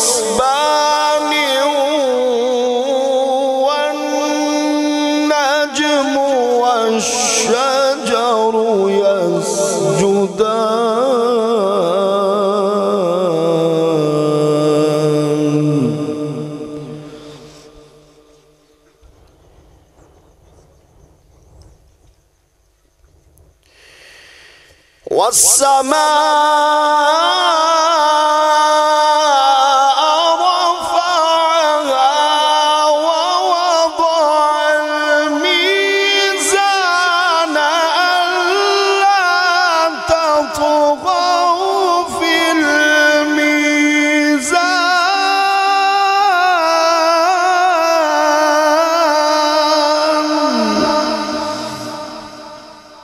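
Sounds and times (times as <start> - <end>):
man chanting melodically: 0.0 - 20.2, 24.1 - 53.0.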